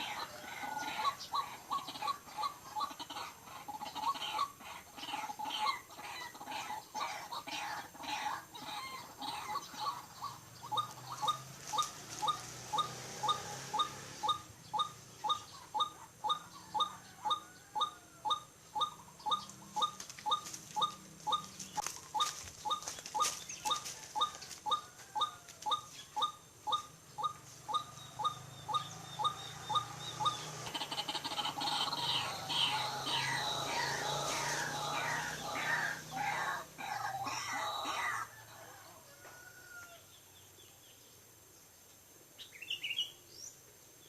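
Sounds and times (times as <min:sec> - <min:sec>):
waterhen calling: 0:00.0 - 0:38.8.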